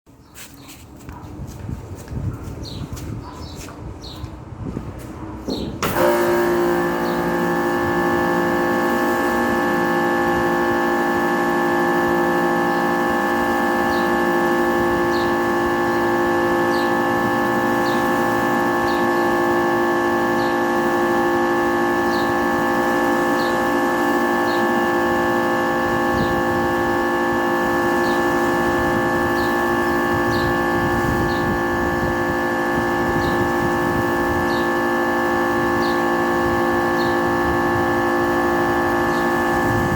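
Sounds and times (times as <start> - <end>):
pressure washer whining: 5.5 - 39.9.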